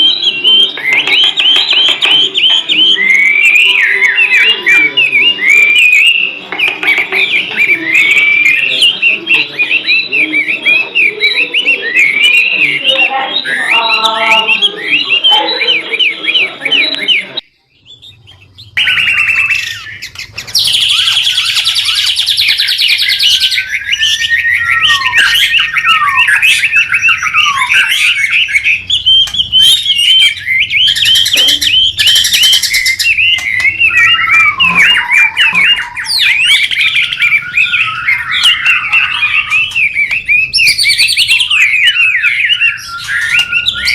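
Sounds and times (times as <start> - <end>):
harsh buzzing bird phrases: 0.0 - 43.9
songbird singing: 0.0 - 43.9.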